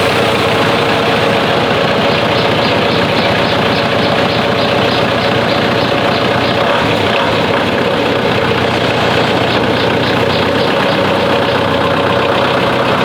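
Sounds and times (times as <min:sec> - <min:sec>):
engine running steadily: 0:00.0 - 0:13.0
faint regular pulsing: 0:00.0 - 0:13.0.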